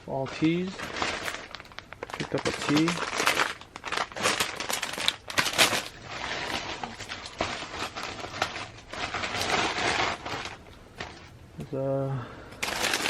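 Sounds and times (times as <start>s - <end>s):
packaging rustling and crinkling: 0.1s - 11.3s, 12.6s - 13.0s.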